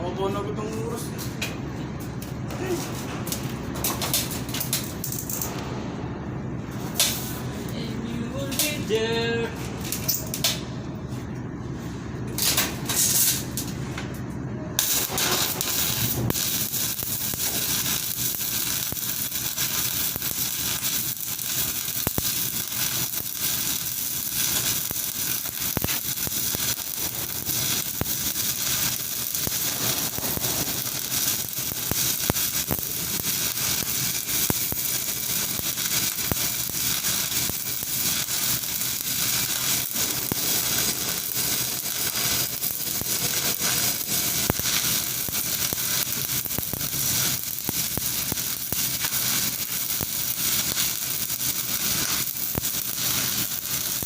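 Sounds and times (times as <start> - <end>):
arc welding crackle: 2.1 - 5.7, 6.7 - 10.6, 12.3 - 54.0.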